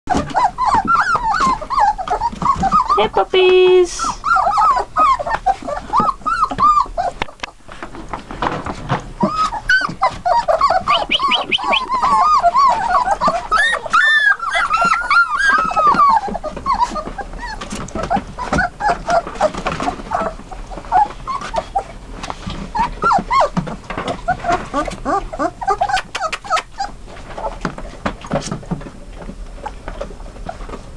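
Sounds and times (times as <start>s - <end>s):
puppies whining and squeaking: 0.1s - 30.9s.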